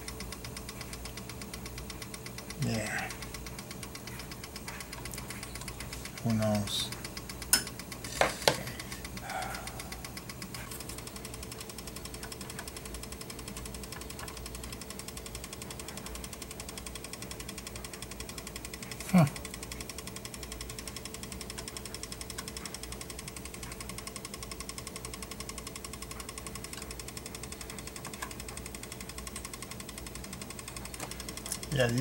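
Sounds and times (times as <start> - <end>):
cassette deck ticking buzz: 0.0 - 32.0.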